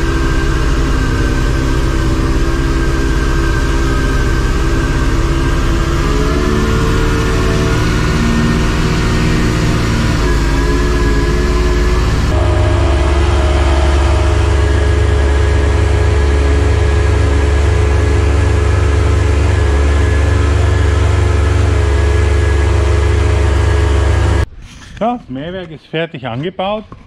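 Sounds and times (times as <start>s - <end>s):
tractor engine running under load: 0.0s - 24.5s.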